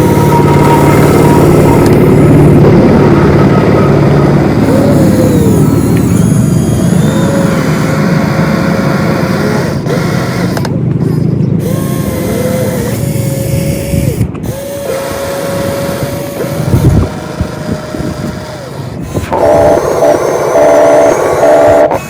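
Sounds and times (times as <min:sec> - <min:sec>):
low rumbling noise: 0:00.0 - 0:22.0
small electric motors whining: 0:00.0 - 0:22.0.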